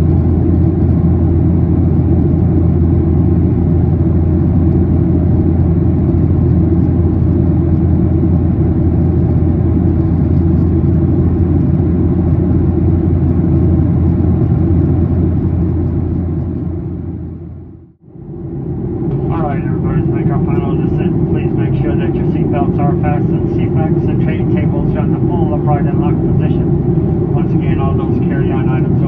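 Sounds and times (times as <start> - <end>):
airplane cabin drone: 0.0 - 29.0.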